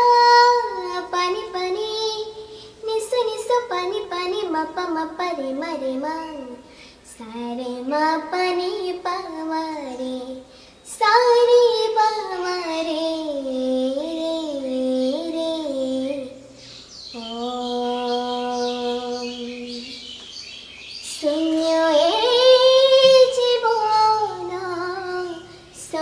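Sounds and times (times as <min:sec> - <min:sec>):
girl singing unaccompanied: 0:00.0 - 0:20.4, 0:21.0 - 0:26.0.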